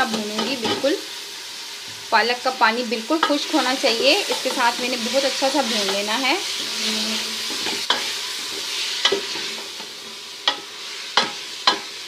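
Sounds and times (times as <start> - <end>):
spinach sizzling in a pot: 0.0 - 12.0.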